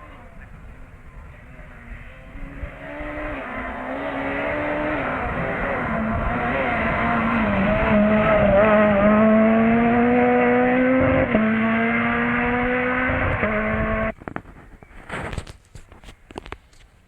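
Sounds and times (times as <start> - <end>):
car engine accelerating: 0.0 - 14.2.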